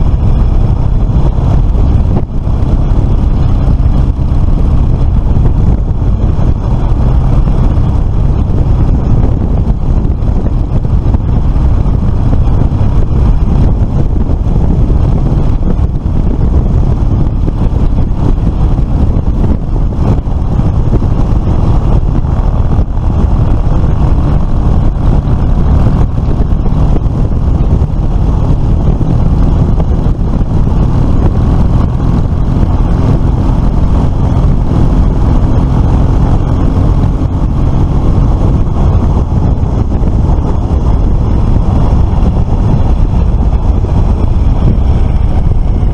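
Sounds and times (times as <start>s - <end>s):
wind rushing on microphone: 0.0s - 45.9s.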